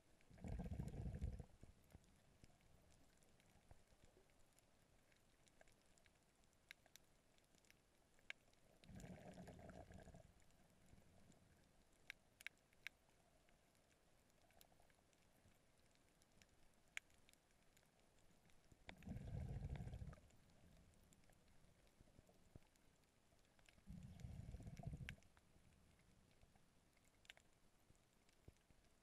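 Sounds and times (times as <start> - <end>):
underwater clicks and crackles: 0.0 - 29.0.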